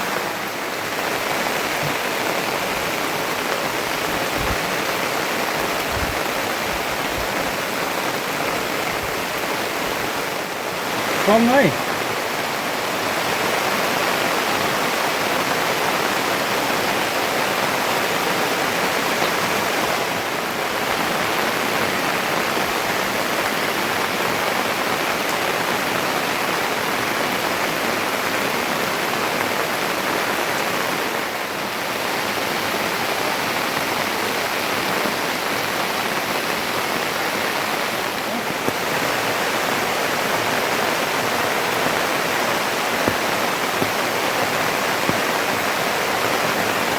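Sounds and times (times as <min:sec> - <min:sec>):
water rushing: 0:00.0 - 0:46.9.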